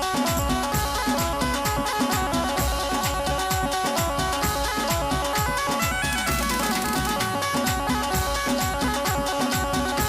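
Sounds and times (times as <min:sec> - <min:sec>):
electronic drum beat: 0:00.0 - 0:10.0
keyboard melody: 0:00.0 - 0:10.0.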